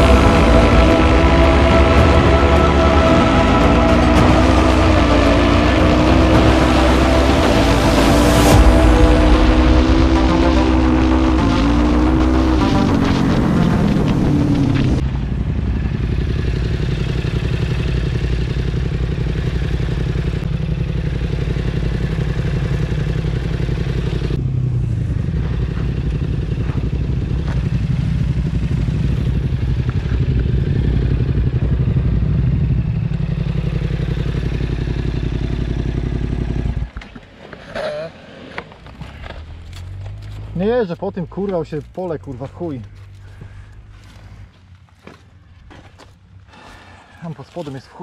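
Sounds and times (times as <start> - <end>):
quad bike engine revving: 0.0 - 40.4.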